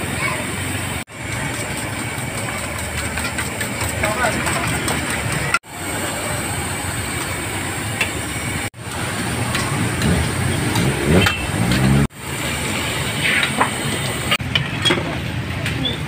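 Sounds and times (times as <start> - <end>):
traffic din: 0.0 - 16.0.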